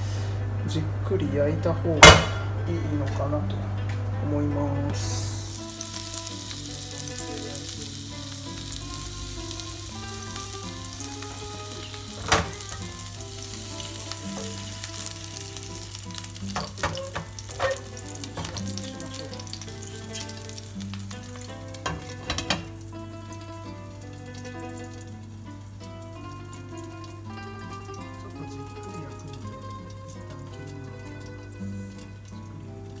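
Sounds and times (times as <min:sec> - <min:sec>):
patties sizzling in oil: 0:00.0 - 0:00.4, 0:05.0 - 0:33.0.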